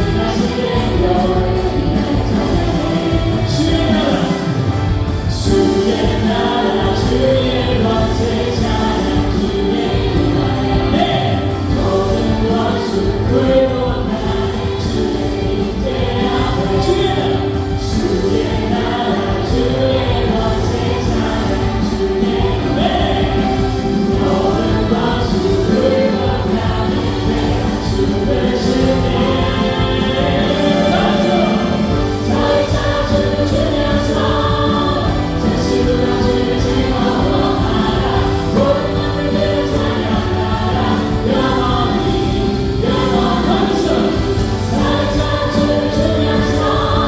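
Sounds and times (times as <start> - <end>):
group of voices singing: 0.0 - 47.0
worship band playing: 0.0 - 47.0.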